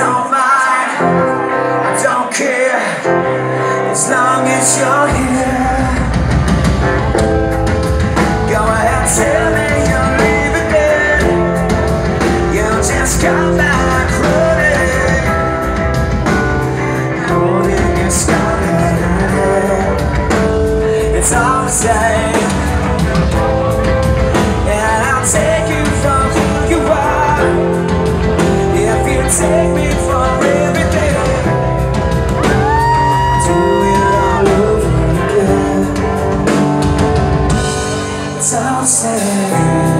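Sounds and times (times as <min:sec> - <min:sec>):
electric guitar: 0:00.0 - 0:39.9
person singing: 0:00.0 - 0:39.9
bass guitar: 0:03.1 - 0:39.9.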